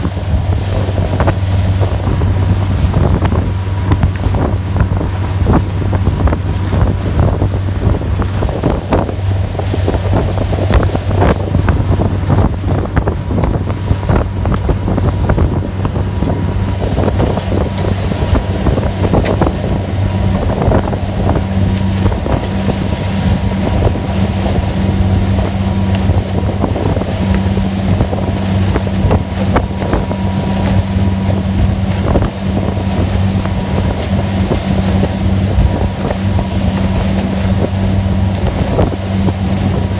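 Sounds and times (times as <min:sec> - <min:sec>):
motorboat engines droning: 0:00.0 - 0:39.9
water slapping against hull: 0:00.0 - 0:39.9
wind buffeting microphone: 0:00.0 - 0:39.9.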